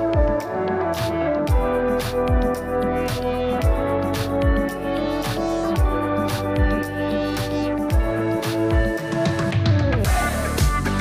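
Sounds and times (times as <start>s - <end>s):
instrumental music with held tones: 0.0s - 11.0s.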